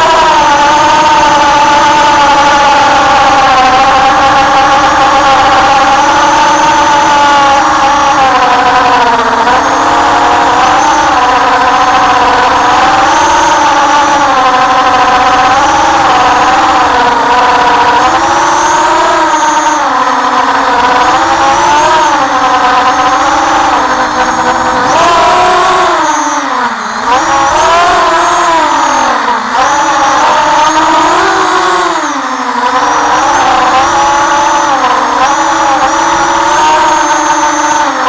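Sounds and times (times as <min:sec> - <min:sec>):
drone motors whining: 0:00.0 - 0:38.0.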